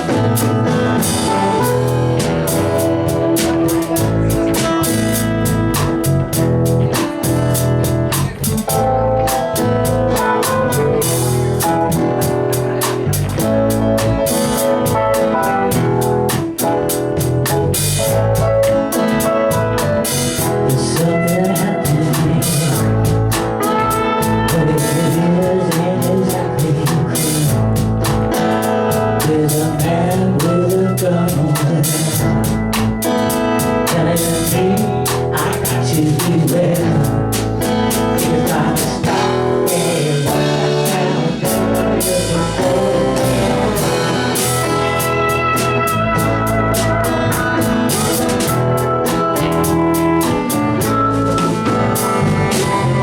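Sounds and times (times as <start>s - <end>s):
drum kit: 0.0s - 53.0s
electric guitar: 0.0s - 53.0s.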